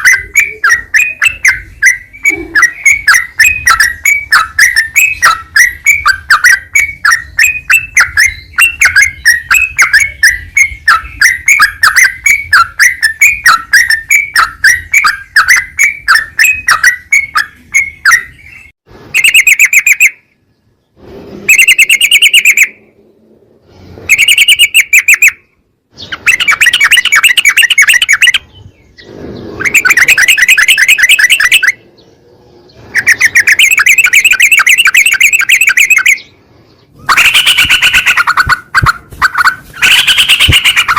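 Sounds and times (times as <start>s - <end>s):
bird chattering and trilling: 0.0s - 20.5s, 21.5s - 23.0s, 23.9s - 40.9s.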